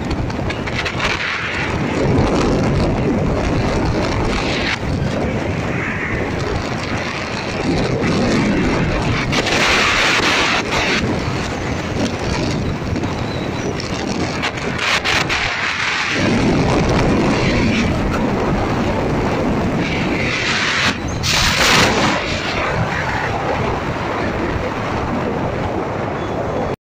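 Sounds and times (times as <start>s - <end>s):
vehicle wind and road noise: 0.0s - 26.8s.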